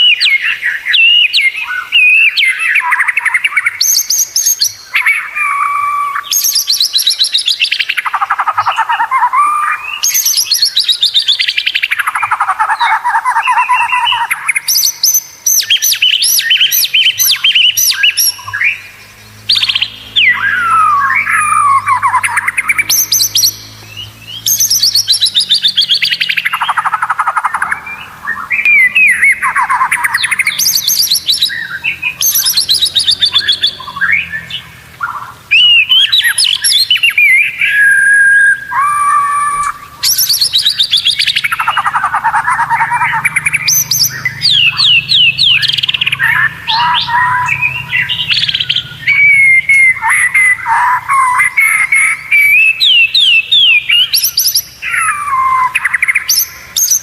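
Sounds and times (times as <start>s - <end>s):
songbird trills and whistles: 0.0s - 57.0s.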